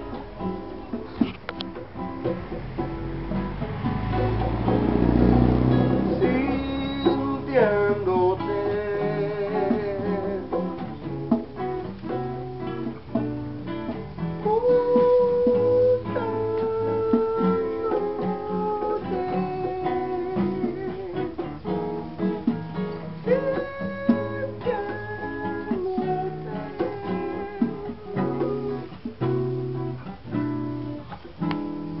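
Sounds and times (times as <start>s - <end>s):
bending guitar lead melody: 0.0s - 32.0s
strummed acoustic guitar chords: 0.0s - 32.0s.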